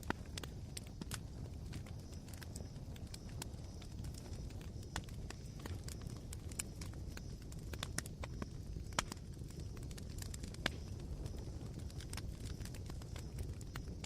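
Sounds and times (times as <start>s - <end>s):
campfire coals crackling: 0.0s - 14.0s.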